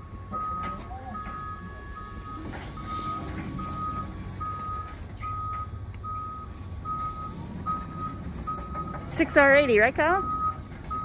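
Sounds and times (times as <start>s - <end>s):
faint steady tone and rumble: 0.0s - 11.0s
forklift warning beeper: 0.0s - 11.0s.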